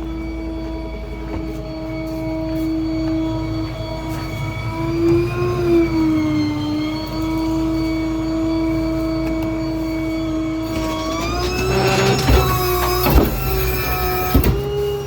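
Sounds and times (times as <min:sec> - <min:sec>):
diesel engine rumble: 0:00.0 - 0:15.0
hydraulic pump whining: 0:00.0 - 0:15.0.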